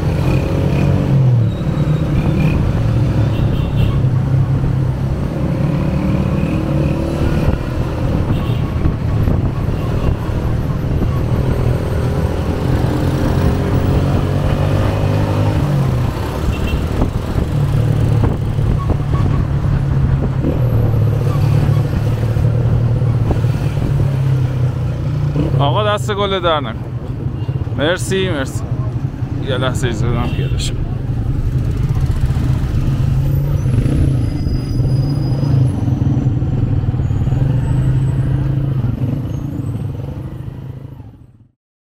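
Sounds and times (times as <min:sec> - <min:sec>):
surrounding traffic noise: 0:00.0 - 0:41.6.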